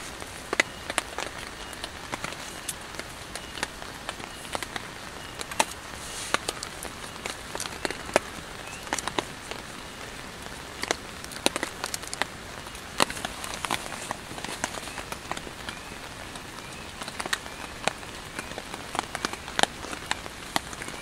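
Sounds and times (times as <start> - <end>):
tent pole sections clicking: 0.0 - 9.7, 10.4 - 21.0
steady hiss: 0.0 - 21.0.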